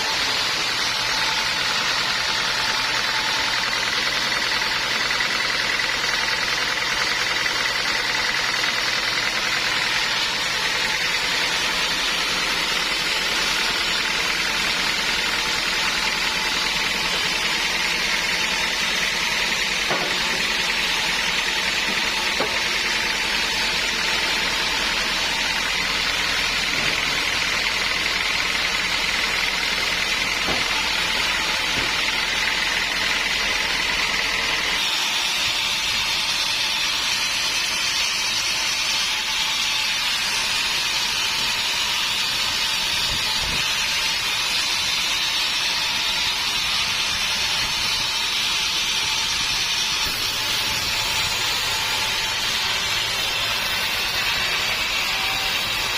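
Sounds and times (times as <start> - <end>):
sawmill machinery whirring: 0.0 - 55.9.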